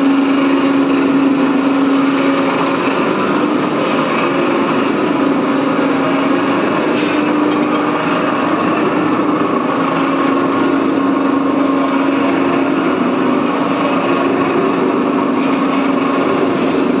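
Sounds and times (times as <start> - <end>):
crane motor humming: 0.0 - 17.0.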